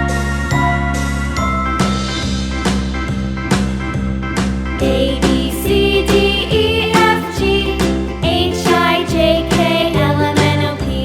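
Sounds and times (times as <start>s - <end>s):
upbeat children's music: 0.0s - 11.0s.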